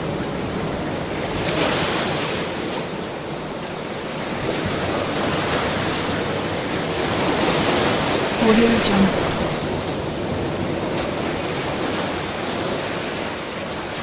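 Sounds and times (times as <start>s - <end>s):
ocean waves washing in: 0.0s - 14.0s.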